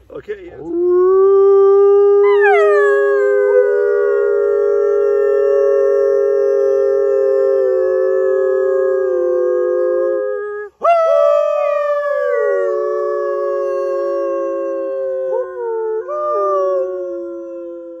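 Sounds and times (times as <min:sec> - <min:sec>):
chorus of wolf-style howling: 0:00.6 - 0:18.0.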